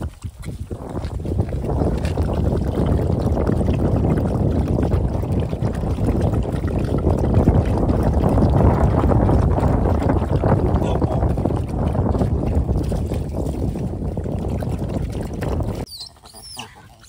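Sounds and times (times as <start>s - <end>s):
wind buffeting microphone: 0.0s - 15.9s
dogs lapping milk: 0.0s - 17.0s.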